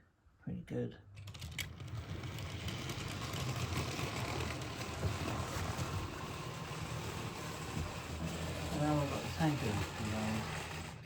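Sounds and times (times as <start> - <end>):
model train running: 1.3 - 11.0.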